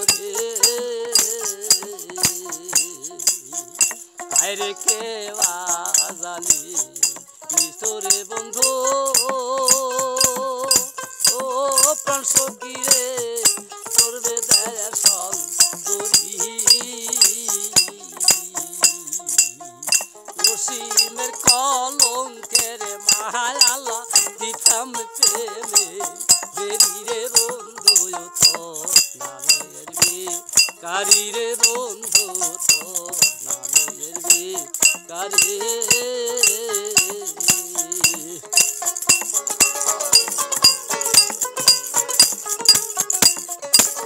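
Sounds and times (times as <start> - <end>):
plucked lute melody: 0.0 - 44.0
sharp rhythmic clicks: 0.0 - 44.0.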